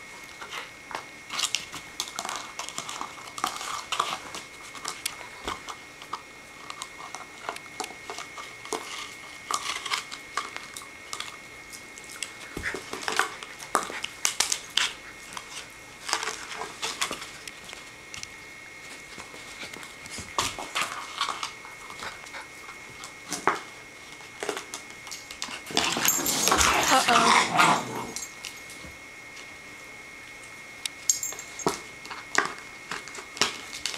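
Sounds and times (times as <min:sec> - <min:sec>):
puppy chewing plastic bowl: 0:00.2 - 0:27.2, 0:31.6 - 0:33.9.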